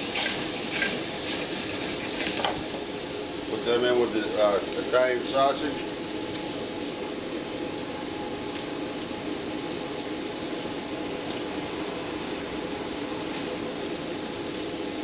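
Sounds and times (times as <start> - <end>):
meat sizzling in a skillet: 0.0 - 15.0.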